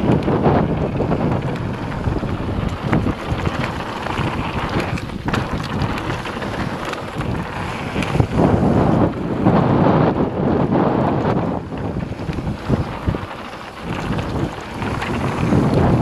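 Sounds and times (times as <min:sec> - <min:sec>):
bike knocks and rattles: 0:00.0 - 0:10.0, 0:10.6 - 0:16.0
wind rushing over microphone: 0:00.0 - 0:16.0.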